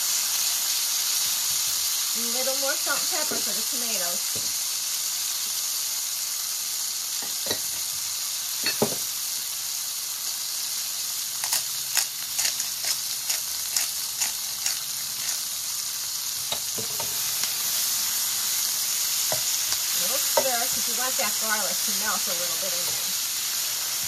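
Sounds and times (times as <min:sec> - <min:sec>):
frying oil crackling: 0:00.0 - 0:24.0
vegetables sizzling in oil: 0:00.0 - 0:24.0.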